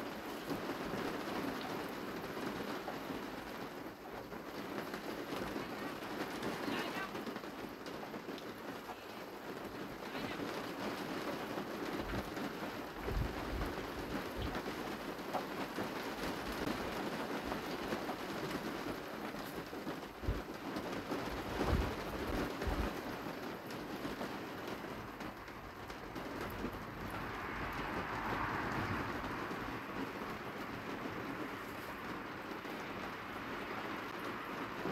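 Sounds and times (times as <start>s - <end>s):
steady rain hissing: 0.0s - 34.9s.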